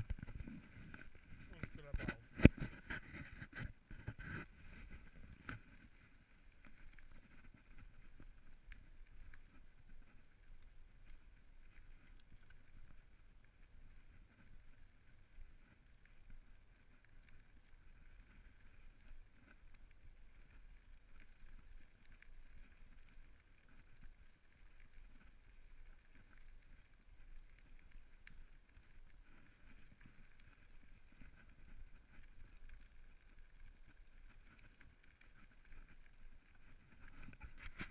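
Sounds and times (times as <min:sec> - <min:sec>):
bicycle tyres on gravel: 0:00.0 - 0:37.9.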